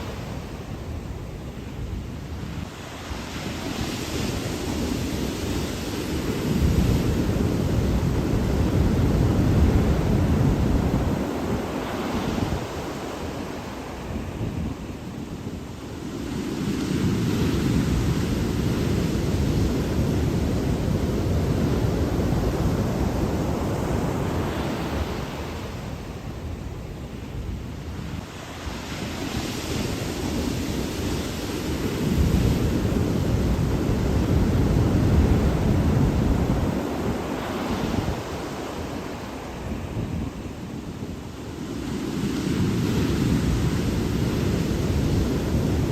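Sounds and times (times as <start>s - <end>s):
waves breaking on shore: 0.0s - 45.9s
wind buffeting microphone: 0.0s - 45.9s.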